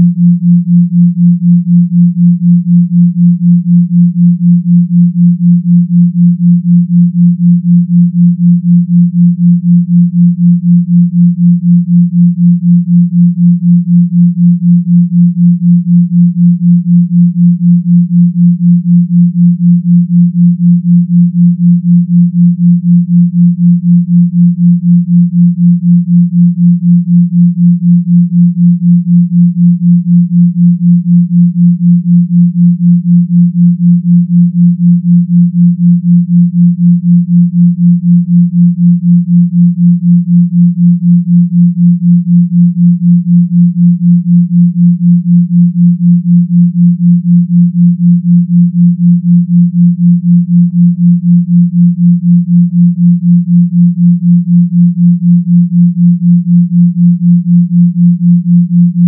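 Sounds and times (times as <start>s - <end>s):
low pulsing pure tone: 0.0s - 59.0s.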